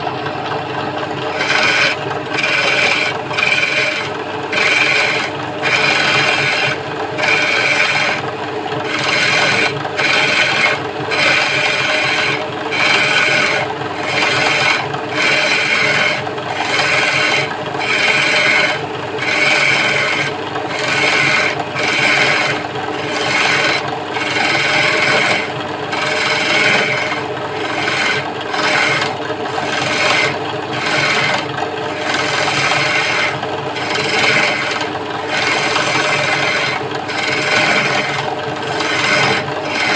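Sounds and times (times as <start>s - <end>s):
lathe motor hum: 0.0s - 39.9s
wood lathe tool scraping wood: 0.2s - 39.9s.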